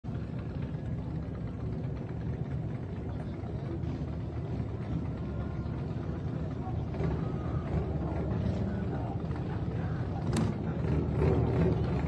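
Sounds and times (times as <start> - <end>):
motorcycle engines running: 0.1 - 12.0.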